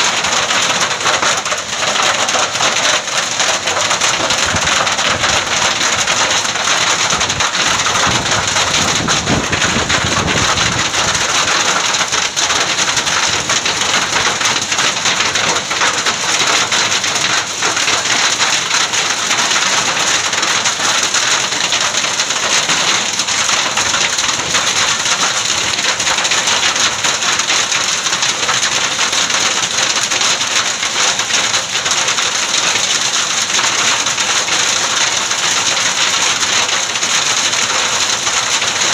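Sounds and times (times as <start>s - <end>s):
hail and rain pelting ground: 0.0s - 38.9s.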